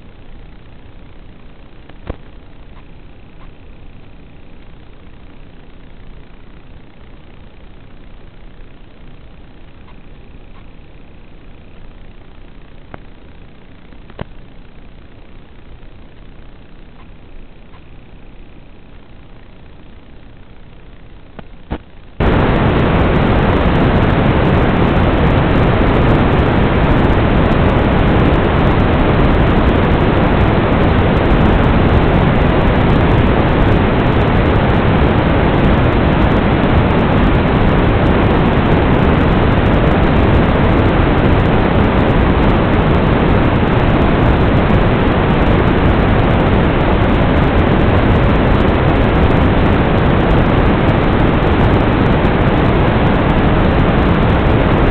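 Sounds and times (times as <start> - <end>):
loud white noise hiss: 0.0 - 54.9.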